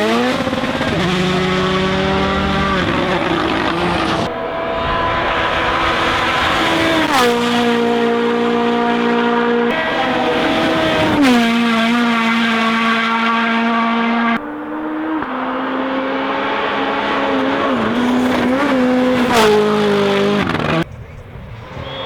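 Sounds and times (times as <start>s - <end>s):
rally cars passing at speed: 0.0s - 20.9s.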